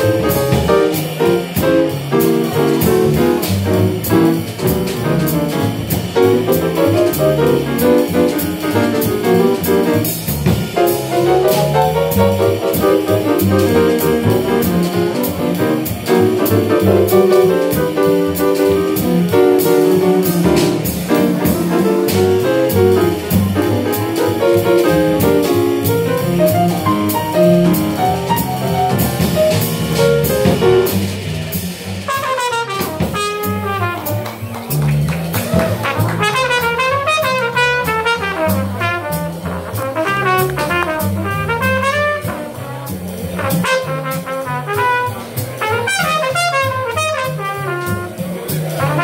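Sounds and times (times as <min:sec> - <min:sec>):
low bass line: 0:00.0 - 0:32.4, 0:33.0 - 0:49.0
drum kit cymbals: 0:00.0 - 0:49.0
piano: 0:00.0 - 0:49.0.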